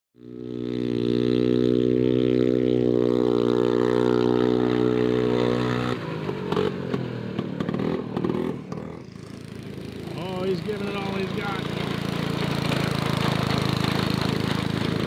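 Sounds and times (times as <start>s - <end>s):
rough clattering engine: 0.2s - 15.0s
snowmobile engine racing: 0.8s - 15.0s.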